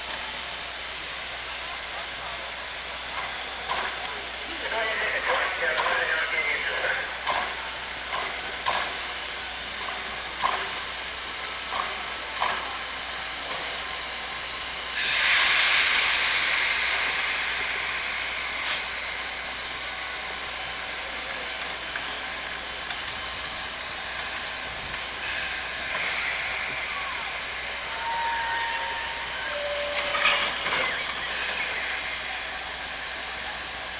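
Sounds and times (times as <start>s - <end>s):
steam locomotive hissing: 0.0s - 33.9s.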